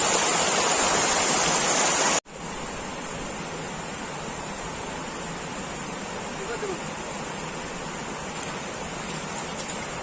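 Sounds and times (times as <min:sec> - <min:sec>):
rushing floodwater: 0:00.0 - 0:10.0.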